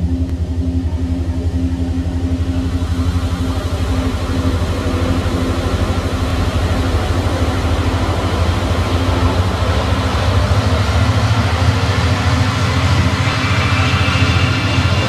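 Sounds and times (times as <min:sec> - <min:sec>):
low pulsing sci-fi hum: 0:00.0 - 0:15.0.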